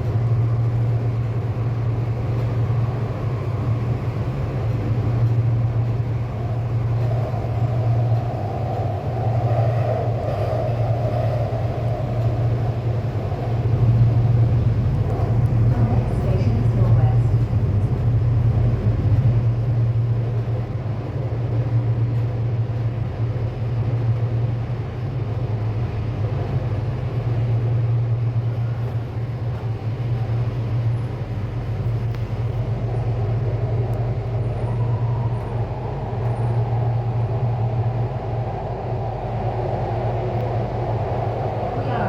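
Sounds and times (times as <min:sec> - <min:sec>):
train running heard from inside: 0:00.0 - 0:42.0.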